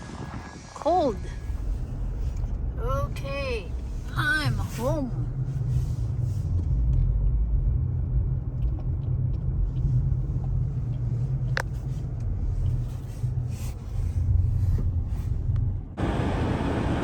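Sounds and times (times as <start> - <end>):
car driving rumble inside cabin: 0.0 - 17.0.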